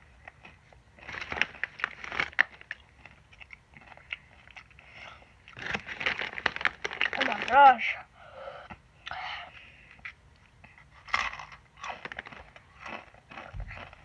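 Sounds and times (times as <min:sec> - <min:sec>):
crunching and chewing chips: 0:00.0 - 0:07.9, 0:09.0 - 0:14.0.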